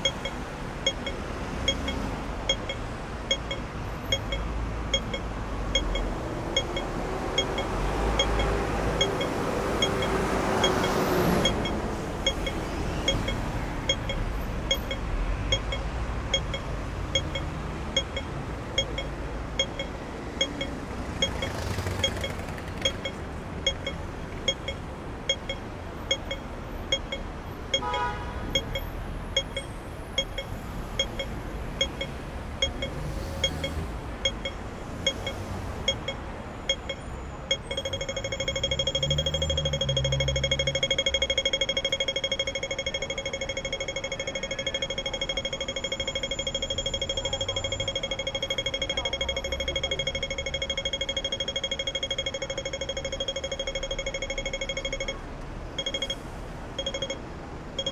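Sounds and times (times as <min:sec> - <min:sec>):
crossing signal ticking: 0:00.0 - 0:57.9
low traffic rumble: 0:00.0 - 0:57.9.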